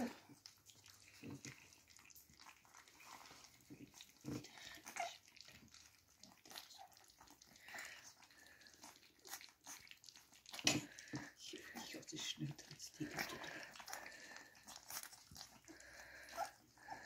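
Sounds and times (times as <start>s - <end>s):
puppies lapping and smacking food: 0.0s - 17.0s.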